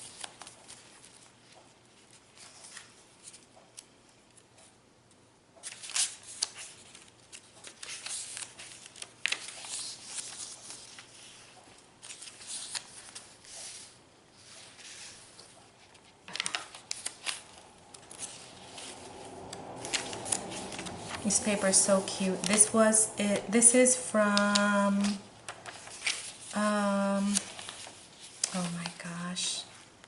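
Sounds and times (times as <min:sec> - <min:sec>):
paper pages rustling: 0:00.0 - 0:04.4, 0:05.6 - 0:29.9.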